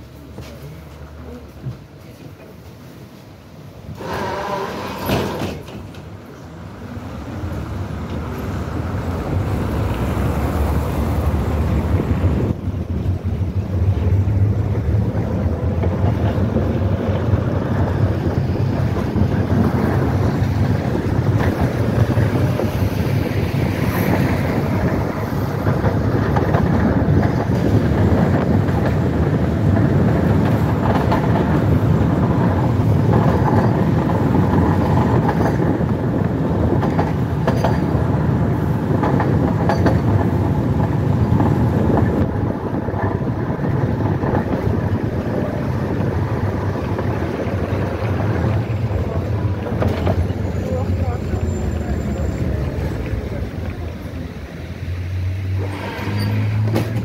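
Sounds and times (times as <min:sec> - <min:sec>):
tram wheels running on track: 0:00.0 - 0:57.0
wind rushing through vent: 0:02.8 - 0:57.0.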